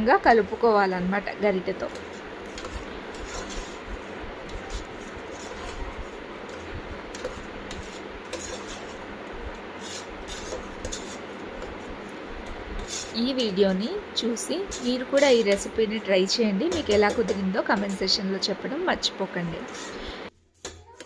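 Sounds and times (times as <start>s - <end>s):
ladle scraping in a pot: 1.6s - 18.0s, 19.6s - 21.0s.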